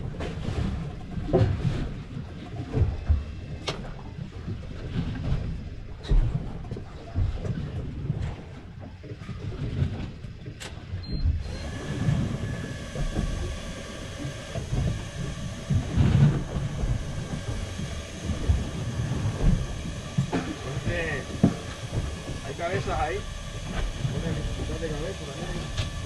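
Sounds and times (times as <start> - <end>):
steady mechanical hum: 0.0 - 26.0
wind buffeting microphone: 0.0 - 26.0.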